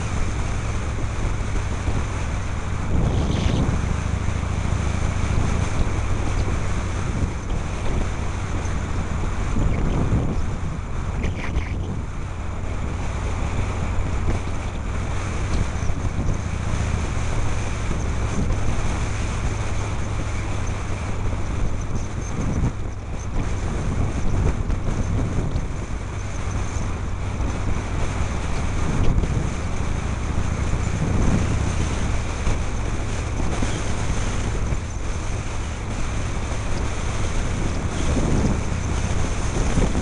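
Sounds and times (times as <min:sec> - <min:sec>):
motorcycle engine running: 0:00.0 - 0:40.0
wind buffeting microphone: 0:00.0 - 0:40.0.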